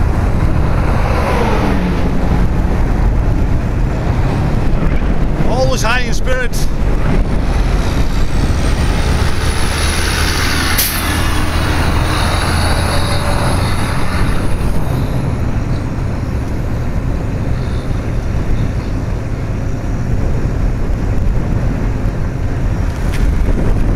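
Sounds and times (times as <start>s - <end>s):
passing traffic rumble: 0.0s - 23.9s
wind and road noise: 0.0s - 23.9s.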